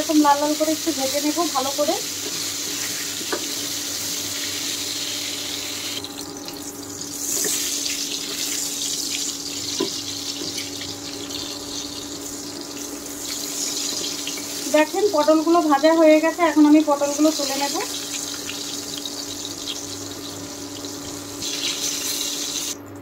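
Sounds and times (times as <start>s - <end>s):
vegetables sizzling in oil: 0.0s - 22.8s.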